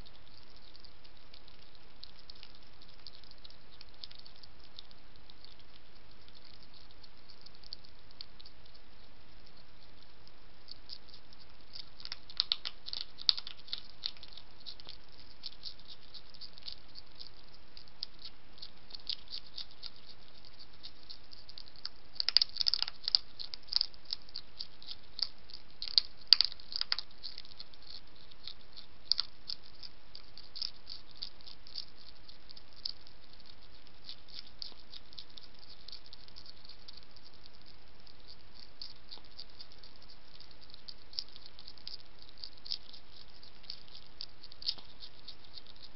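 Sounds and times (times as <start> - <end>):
hedgehog crunching kibble: 0.0 - 45.9.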